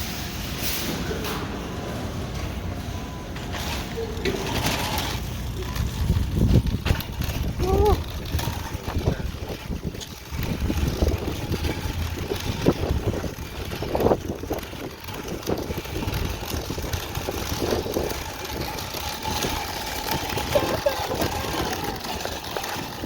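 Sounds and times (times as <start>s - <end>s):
traffic rumble: 0.1s - 23.0s.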